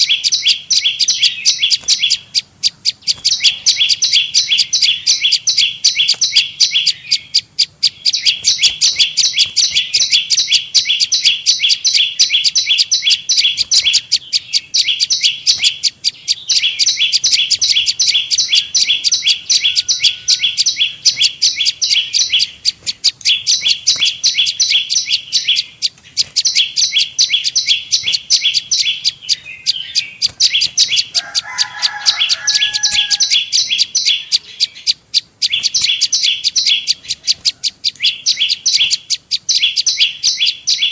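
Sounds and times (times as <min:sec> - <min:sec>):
high sharp bird chirps: 0:00.0 - 0:40.9
low bird call: 0:00.0 - 0:40.9.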